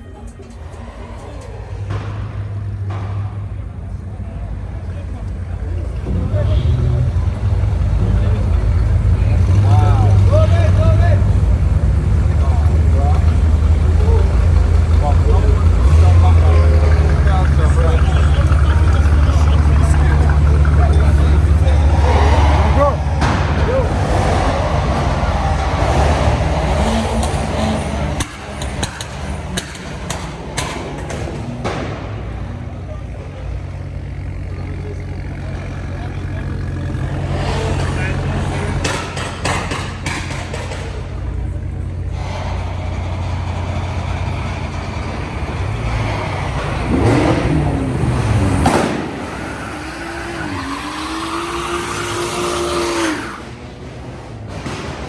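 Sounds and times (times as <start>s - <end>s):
engine deep low rumble: 0.2s - 51.3s.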